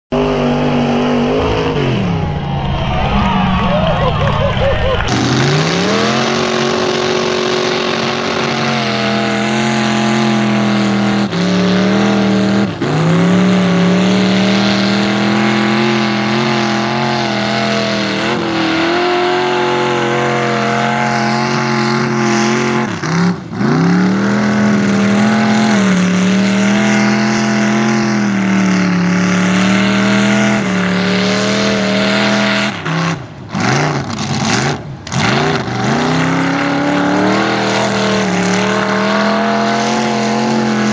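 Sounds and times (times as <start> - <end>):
truck engine revving hard: 0.1 - 40.9.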